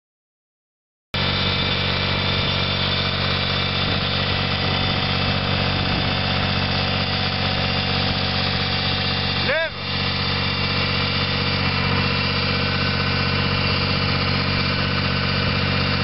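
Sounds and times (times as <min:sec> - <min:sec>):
tractor engine running: 0:01.2 - 0:16.0.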